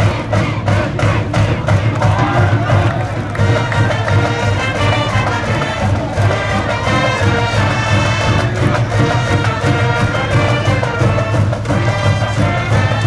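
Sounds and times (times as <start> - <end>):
brass band playing cheer tune: 1.7 - 13.0.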